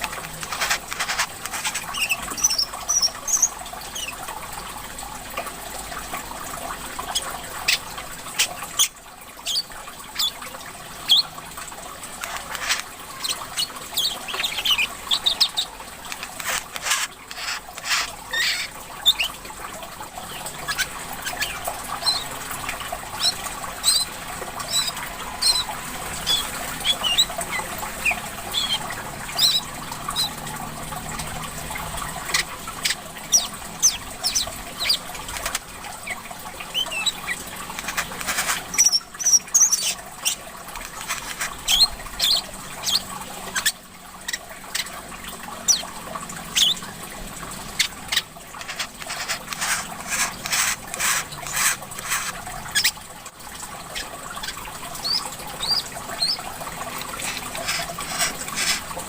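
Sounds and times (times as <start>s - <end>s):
bird chirping and ticking: 0.0s - 4.5s, 6.7s - 11.4s, 12.0s - 53.1s, 53.8s - 58.9s
water trickling: 0.0s - 59.0s.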